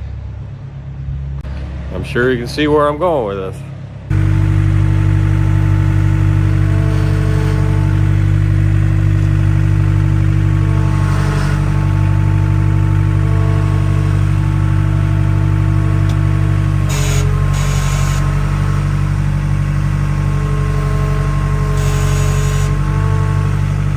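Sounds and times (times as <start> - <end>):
skid steer engine running: 4.1 - 23.9.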